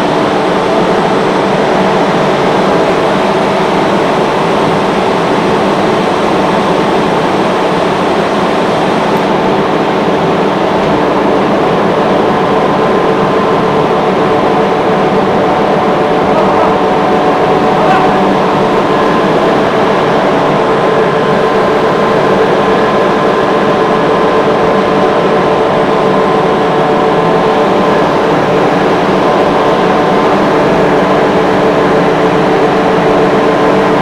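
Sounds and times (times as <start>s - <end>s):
air compressor droning: 0.0s - 34.0s.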